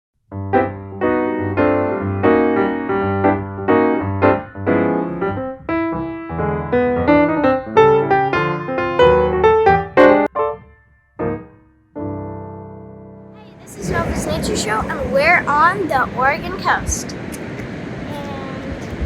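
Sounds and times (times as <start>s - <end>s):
piano intro music: 0.3s - 16.2s.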